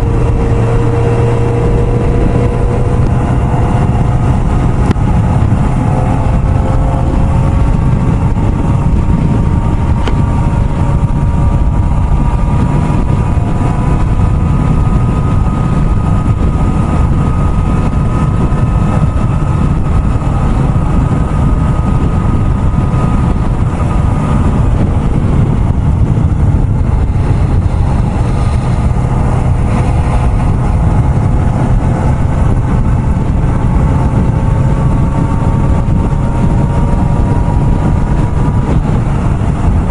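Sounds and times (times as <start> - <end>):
heavy low rumble: 0.0 - 39.9
motorcycle engine cruising: 0.0 - 39.9.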